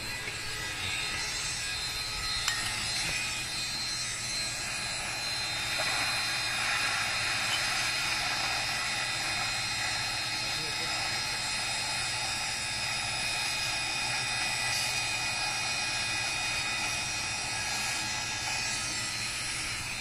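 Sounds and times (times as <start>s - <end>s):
mechanical whir with high whine: 0.0s - 20.0s.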